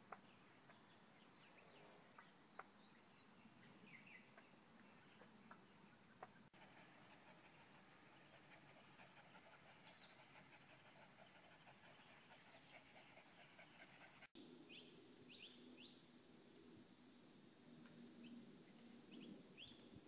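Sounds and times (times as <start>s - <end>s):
bird chirping: 0.0s - 16.1s, 18.2s - 20.0s.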